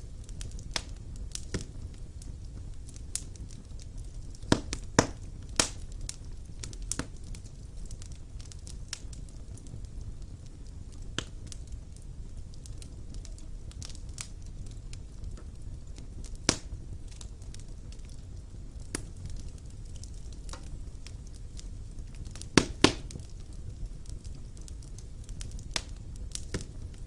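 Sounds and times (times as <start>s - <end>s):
fire crackles and pops: 0.0s - 27.0s
low rumble of flames: 0.0s - 27.0s.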